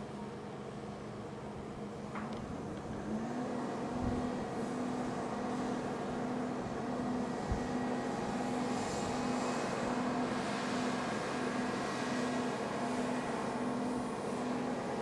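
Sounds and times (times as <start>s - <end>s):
crane engine running: 0.0s - 15.0s.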